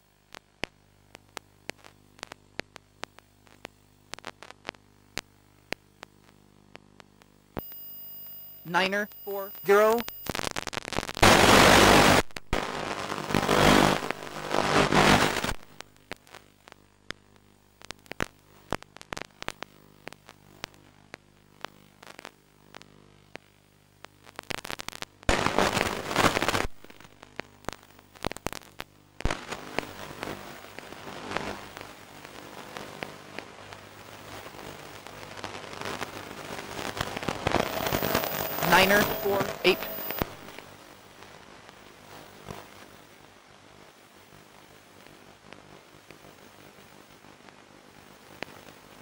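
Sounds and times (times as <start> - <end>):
faint steady hum: 0.0 - 49.0
radio static hiss and crackle: 0.0 - 49.0.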